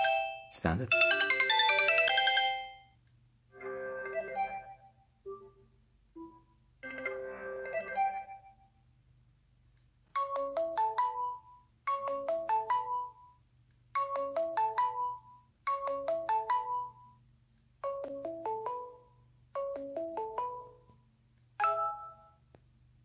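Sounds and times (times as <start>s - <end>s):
phone ringtone melody: 0.0s - 5.6s, 6.2s - 8.7s, 10.2s - 17.2s, 17.8s - 20.8s, 21.6s - 22.4s.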